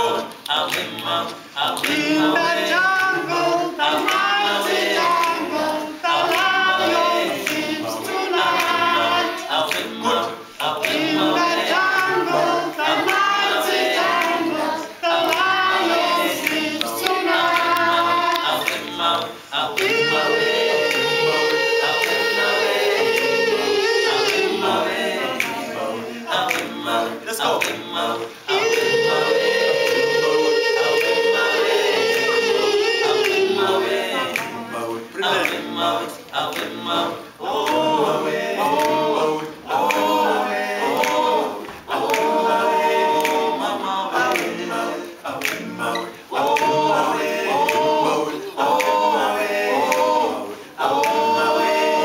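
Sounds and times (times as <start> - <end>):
men's a cappella group singing: 0.0 - 52.0.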